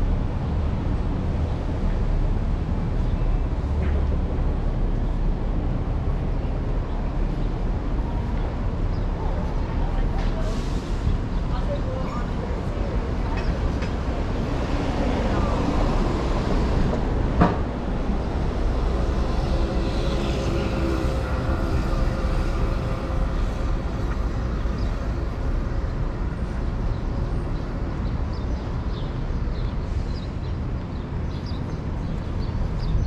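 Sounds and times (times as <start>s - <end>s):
low rumble of passing vehicles: 0.0s - 33.0s.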